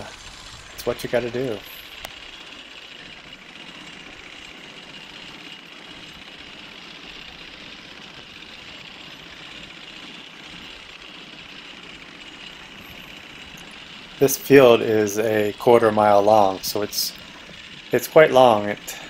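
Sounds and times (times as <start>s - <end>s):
mower cutter bar chatter: 0.0s - 19.0s.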